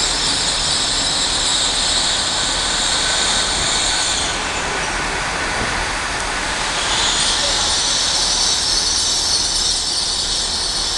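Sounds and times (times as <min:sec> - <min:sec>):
bright hiss of passing carriages: 0:00.0 - 0:10.9
train passing at speed: 0:00.0 - 0:10.9.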